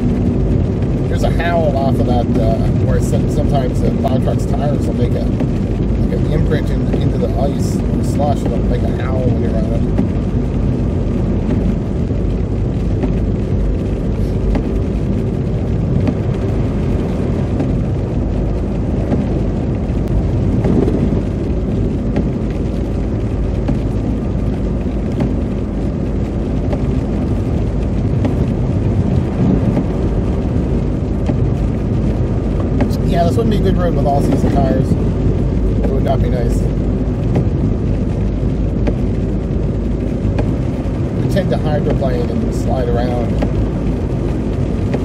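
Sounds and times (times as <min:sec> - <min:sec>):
tyres rumbling in icy ruts: 0:00.0 - 0:45.0.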